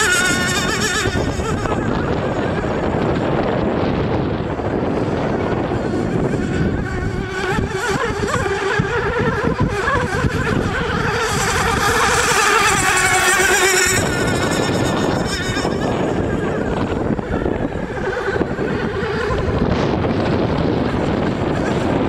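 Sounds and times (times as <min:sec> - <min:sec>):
model boat engine whining: 0:00.0 - 0:22.0.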